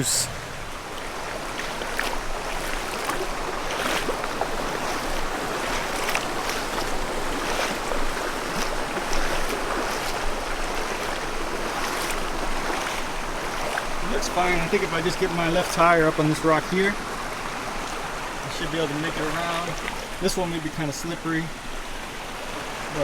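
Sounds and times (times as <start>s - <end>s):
creek water rushing over rocks: 0.0s - 23.0s.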